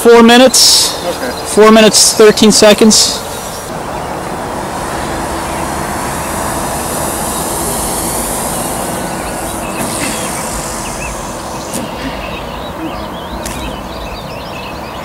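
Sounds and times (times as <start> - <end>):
model plane propeller droning: 0.8 - 14.9
steady low rumble: 0.9 - 15.0.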